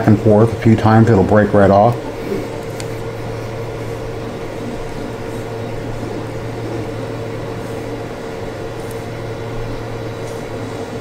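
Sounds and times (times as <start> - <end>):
appliance humming drone: 0.0 - 11.0.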